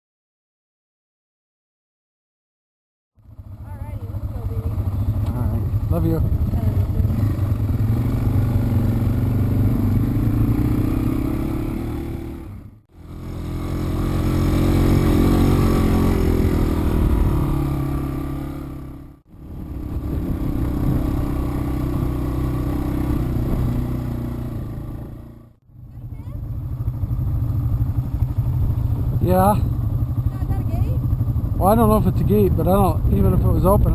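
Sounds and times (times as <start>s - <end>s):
dirt bike engine running: 3.2s - 33.9s.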